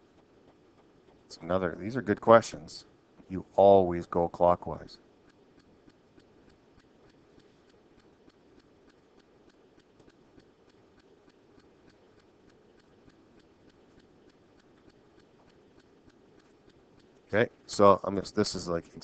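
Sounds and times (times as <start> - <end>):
fast faint ticking: 0.0 - 19.0.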